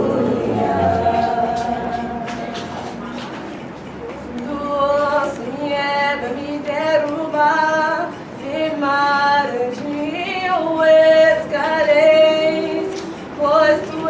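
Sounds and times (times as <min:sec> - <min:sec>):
woman singing unaccompanied: 0:00.0 - 0:03.0, 0:04.3 - 0:14.0.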